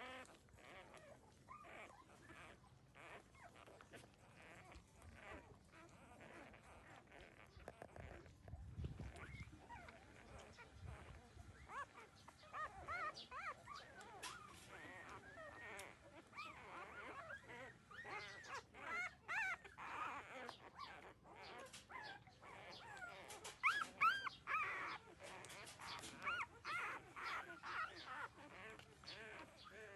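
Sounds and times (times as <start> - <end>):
puppies whimpering and squeaking: 0.0 - 29.9.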